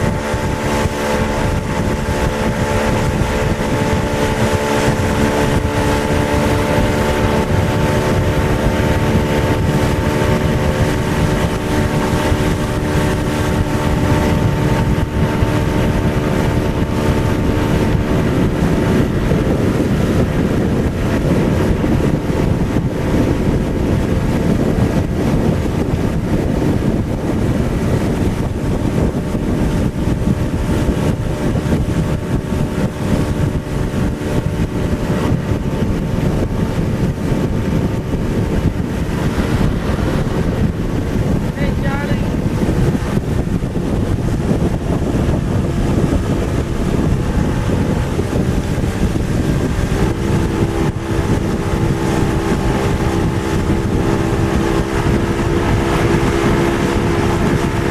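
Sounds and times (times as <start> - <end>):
motorboat engine running: 0.0 - 57.9
water rushing: 0.0 - 57.9
wind buffeting microphone: 0.0 - 57.9.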